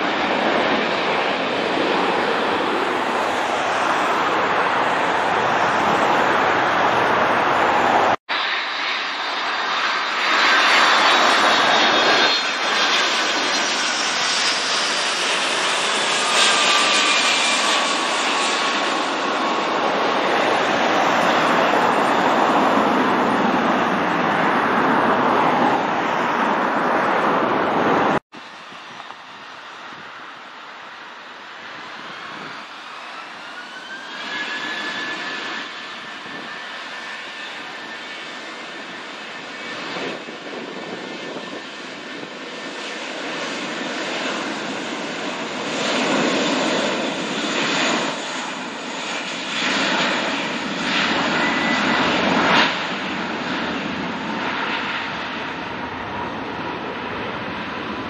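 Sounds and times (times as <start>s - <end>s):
jet engine whine: 0.0s - 58.0s
jet engines rushing on touchdown: 0.0s - 58.0s.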